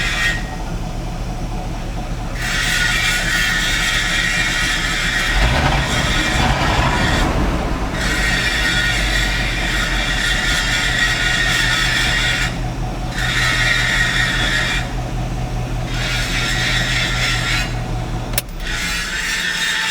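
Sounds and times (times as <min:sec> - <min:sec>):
truck engine running: 0:00.0 - 0:19.9.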